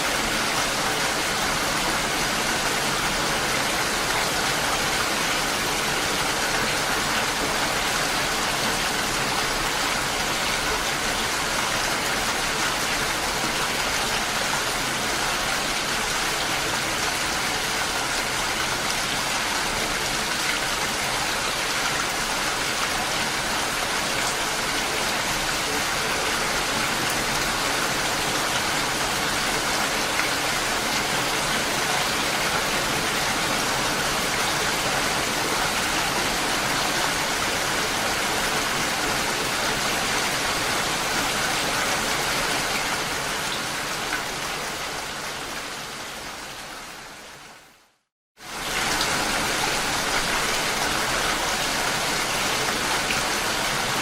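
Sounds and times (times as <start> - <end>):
steady rain on hard surfaces: 0.0 - 54.0.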